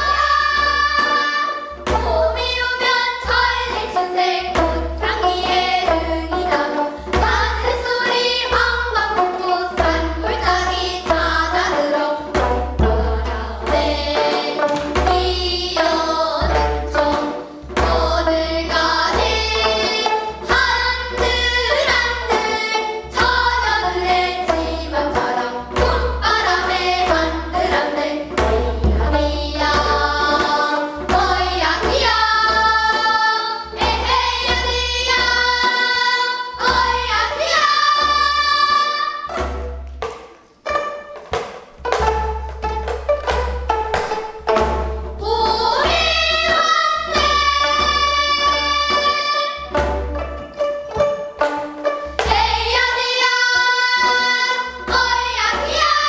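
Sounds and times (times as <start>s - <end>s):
girls singing together: 0.0s - 39.5s, 45.1s - 50.0s, 52.1s - 56.0s
plucked zithers: 0.0s - 56.0s.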